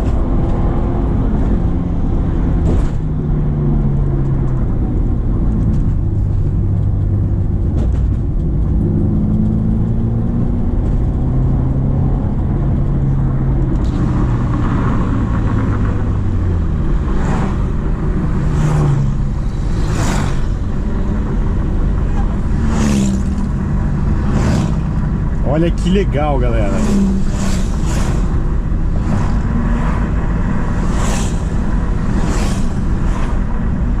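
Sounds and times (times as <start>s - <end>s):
car engine under load: 0.0s - 34.0s.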